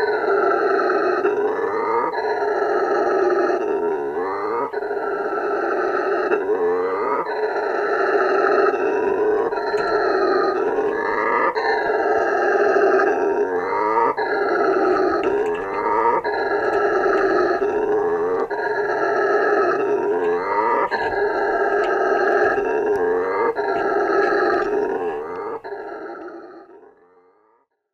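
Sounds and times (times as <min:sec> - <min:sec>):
howler monkey roaring: 0:00.0 - 0:27.5.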